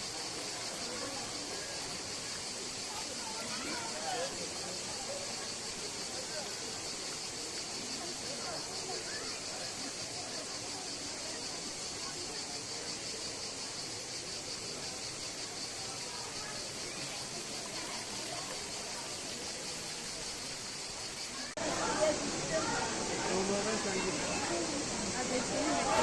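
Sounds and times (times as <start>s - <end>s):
faint distant voices: 0.0s - 26.0s
high insect chorus buzzing: 0.0s - 26.0s.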